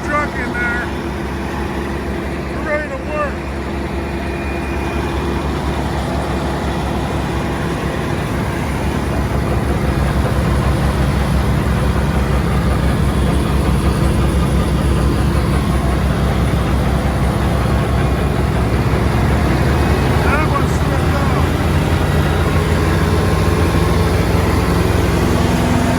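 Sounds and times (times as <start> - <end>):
heavy engine low rumble: 0.0 - 25.9.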